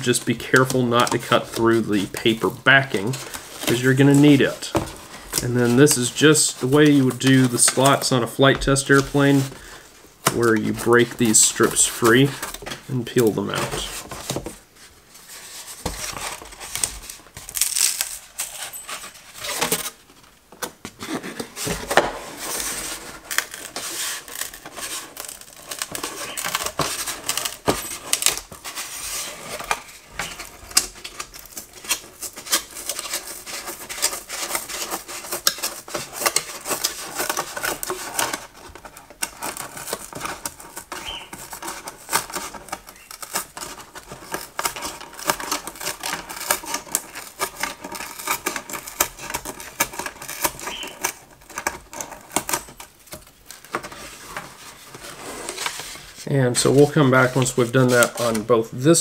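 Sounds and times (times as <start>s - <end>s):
foam board crackling and clicking: 0.0s - 14.6s, 15.3s - 59.0s.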